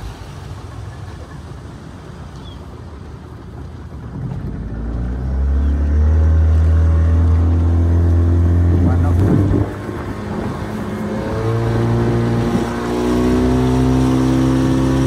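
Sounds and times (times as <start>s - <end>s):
motorboat engine running: 0.0s - 15.0s
water rushing: 0.0s - 15.0s
wind: 0.0s - 15.0s.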